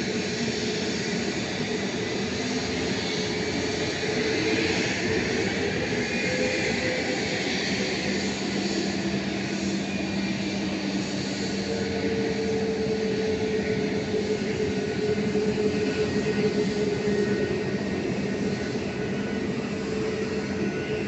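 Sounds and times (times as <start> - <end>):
jet engines droning while taxiing: 0.0 - 21.0.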